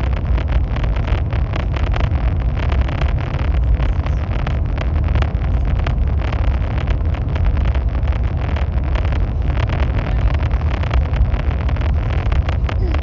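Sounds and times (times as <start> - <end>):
high-speed train rumbling: 0.0 - 13.0.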